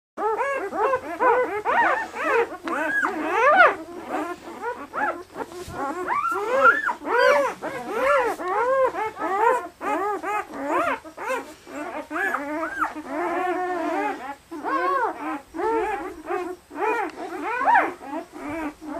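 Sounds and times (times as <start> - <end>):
puppies squealing and whining: 0.2 - 18.9.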